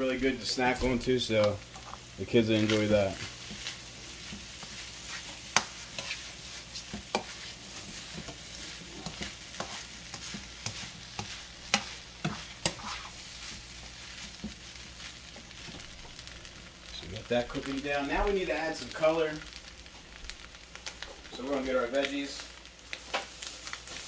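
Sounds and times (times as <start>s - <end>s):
fried rice sizzling on a griddle: 0.0s - 24.0s.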